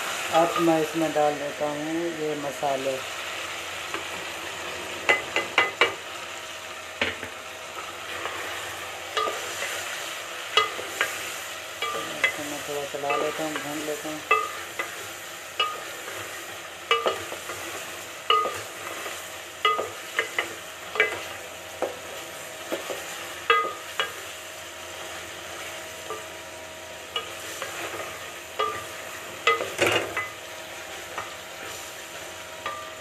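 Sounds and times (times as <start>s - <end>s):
chicken sizzling in a pot: 0.0s - 33.0s.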